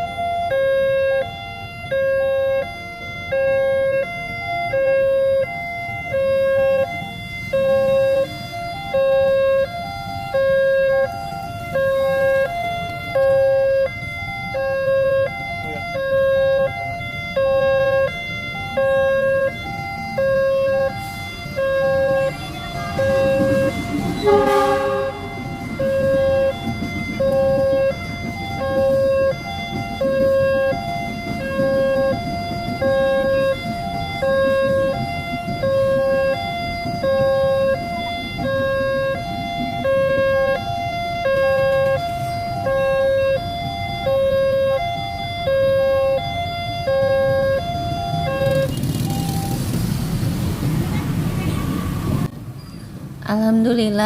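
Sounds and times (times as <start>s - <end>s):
level crossing two-tone alarm: 0.0s - 49.8s.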